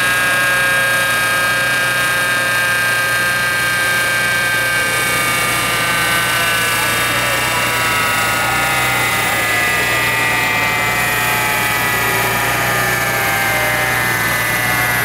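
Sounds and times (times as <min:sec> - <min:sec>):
engine low hum: 0:00.0 - 0:15.0
turbo whine falling in pitch: 0:00.0 - 0:15.0.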